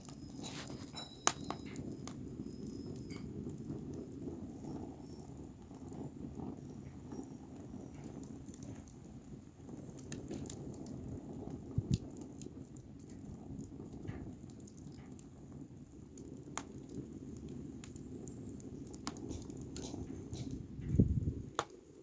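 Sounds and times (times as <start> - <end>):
fire pop: 0.0 - 22.0
wood fire crackling: 0.0 - 22.0.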